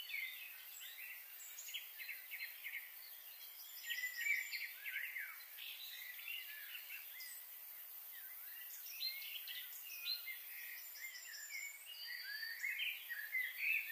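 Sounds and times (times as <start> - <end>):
small birds chirping: 0.0 - 13.9
steady background hiss: 0.0 - 13.9.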